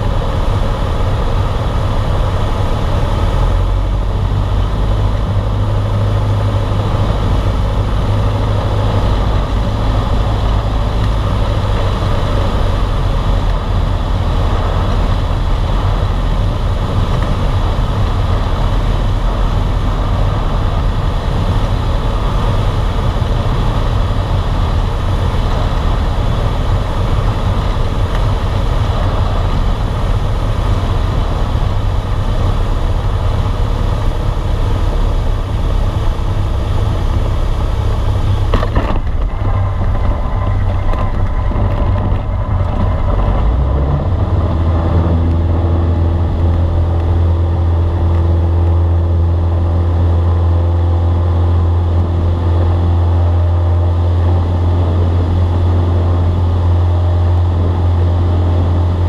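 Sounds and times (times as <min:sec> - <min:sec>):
air rushing over cabin: 0:00.0 - 0:59.0
airplane engine and propeller droning: 0:00.0 - 0:59.0.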